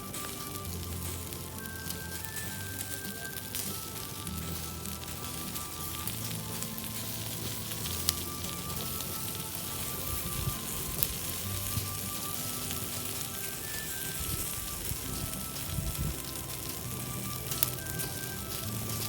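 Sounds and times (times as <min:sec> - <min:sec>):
campfire crackling and popping: 0:00.0 - 0:19.0
soft background music: 0:00.0 - 0:19.0.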